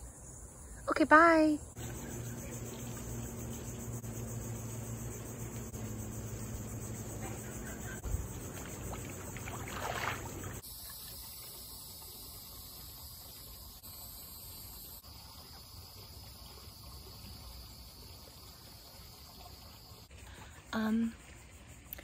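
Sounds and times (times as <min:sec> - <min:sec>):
insects buzzing: 0:00.0 - 0:22.0
pool water sloshing: 0:01.8 - 0:22.0.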